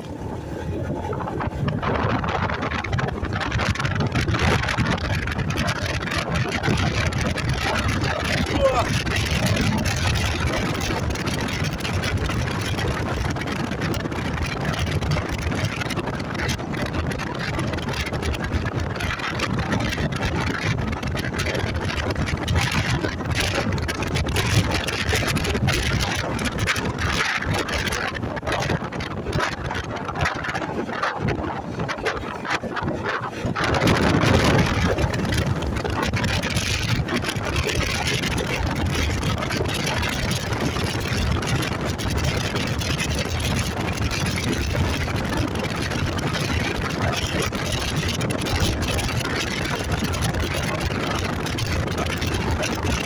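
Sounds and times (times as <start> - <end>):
motorcycle engine running: 0.0 - 31.3, 32.0 - 53.0
wind rushing over microphone: 0.0 - 53.0.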